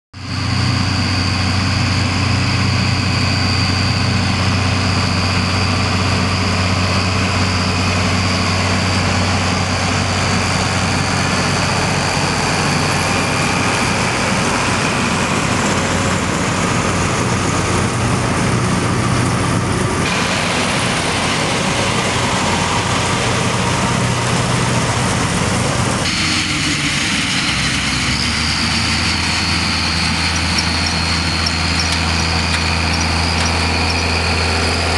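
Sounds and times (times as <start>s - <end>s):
combine harvester threshing: 0.2s - 34.9s
steady high whine: 0.2s - 34.9s
tractor diesel engine under load: 0.2s - 34.9s.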